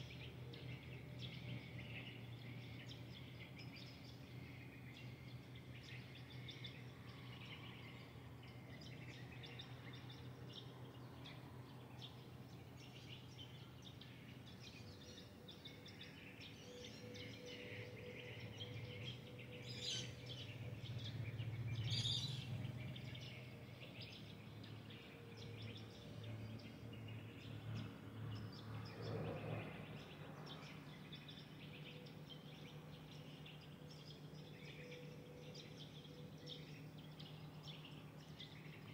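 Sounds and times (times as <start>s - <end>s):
chorus of small birds chirping: 0.0s - 38.9s.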